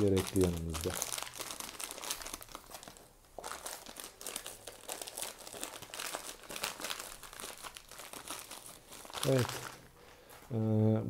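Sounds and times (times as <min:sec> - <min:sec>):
wrapping crinkling in hands: 0:00.0 - 0:10.5.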